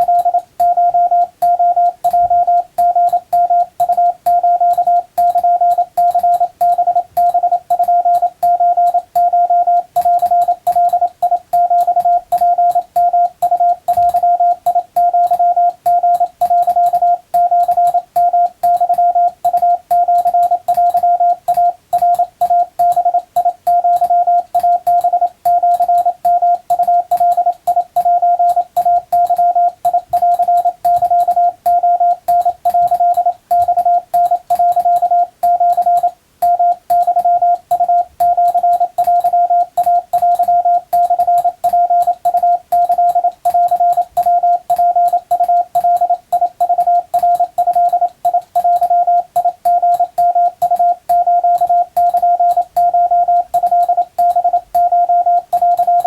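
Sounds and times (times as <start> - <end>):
morse code tone: 0.0 - 56.0.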